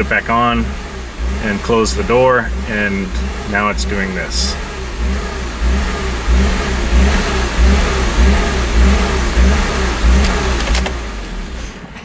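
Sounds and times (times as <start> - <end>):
car engine surging at idle: 0.0 - 12.0.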